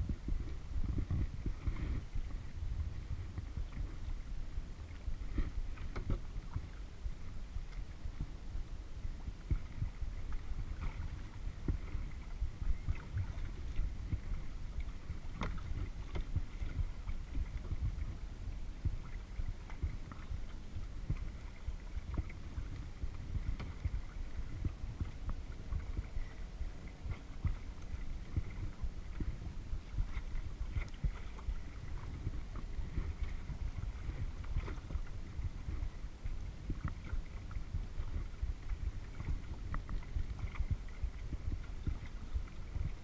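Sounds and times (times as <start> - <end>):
paddle splashes: 0.0 - 43.0
water rumbling against hull: 0.0 - 43.0.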